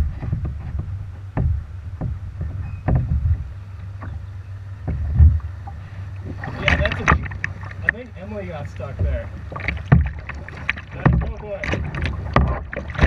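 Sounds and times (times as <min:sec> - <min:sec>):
low rumble of water and wind: 0:00.0 - 0:13.0
paddle strokes splashing: 0:00.0 - 0:13.0.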